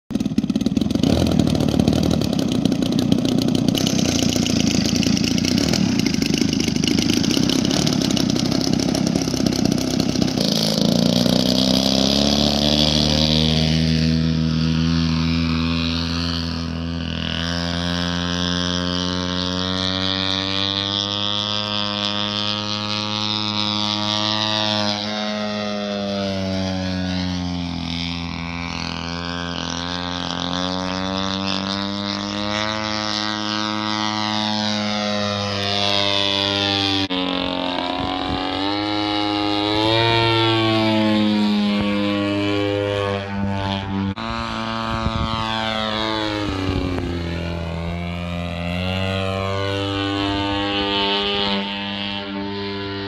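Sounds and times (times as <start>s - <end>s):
model plane engine buzzing: 0.1s - 53.0s.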